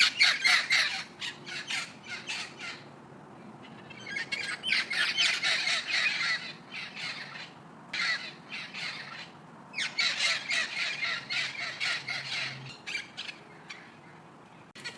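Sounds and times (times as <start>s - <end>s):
birds squawking harshly: 0.0s - 2.9s, 3.6s - 14.9s.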